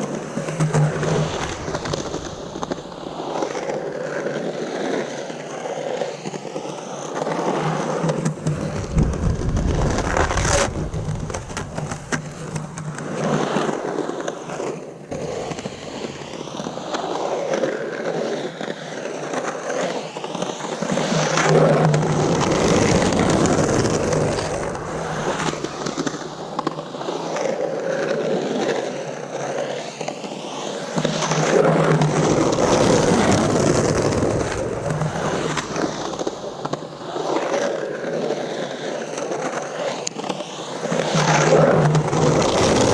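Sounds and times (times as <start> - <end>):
skateboard rolling on concrete: 0.0 - 42.9.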